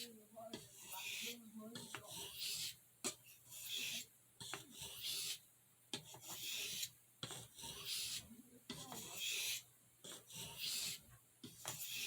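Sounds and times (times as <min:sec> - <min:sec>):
knife blade stroking sharpening stone: 0:00.6 - 0:05.4, 0:06.0 - 0:12.0.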